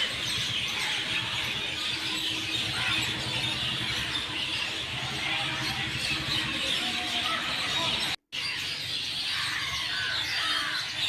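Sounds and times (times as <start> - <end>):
birds chirping and calling: 0.0 - 11.0
outdoor background noise: 0.0 - 11.0.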